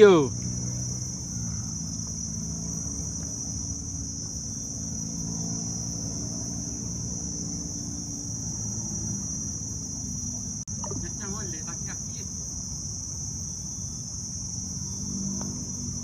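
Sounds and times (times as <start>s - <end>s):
shrill insect drone: 0.0s - 16.0s.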